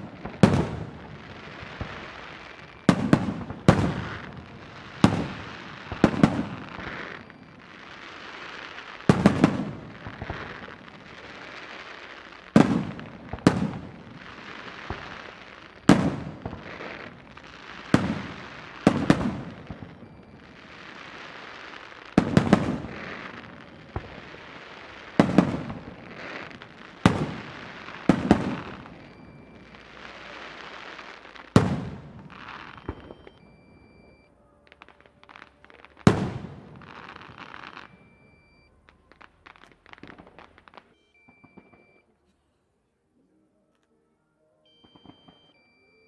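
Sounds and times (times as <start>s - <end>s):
fireworks bursting with loud bangs: 0.0s - 42.0s, 44.8s - 45.9s
fireworks crackling: 0.0s - 42.0s.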